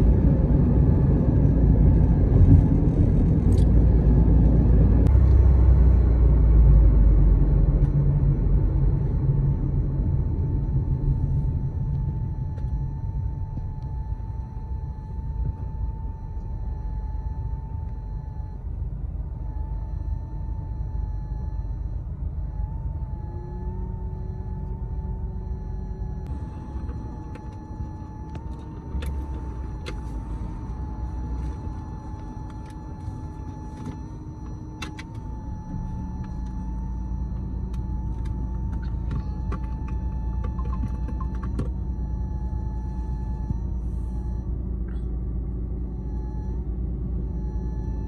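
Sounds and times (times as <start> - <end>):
road and engine rumble: 0.0 - 48.0
faint high whine: 5.0 - 48.0.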